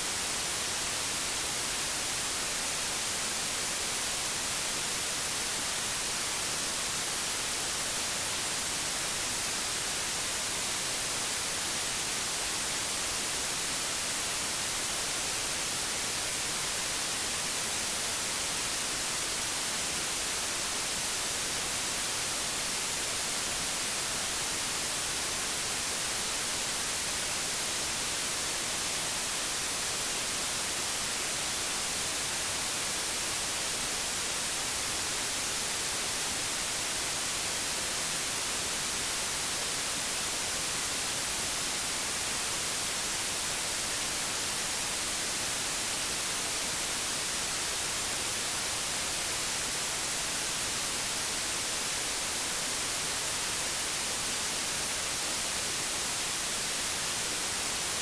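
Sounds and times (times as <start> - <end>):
television static hiss: 0.0 - 58.0.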